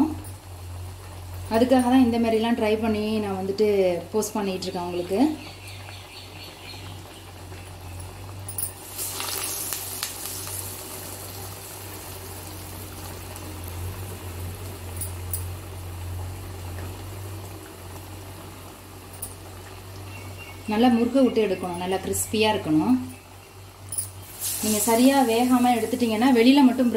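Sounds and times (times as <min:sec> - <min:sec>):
fritters deep-frying in oil: 0:00.0 - 0:26.9.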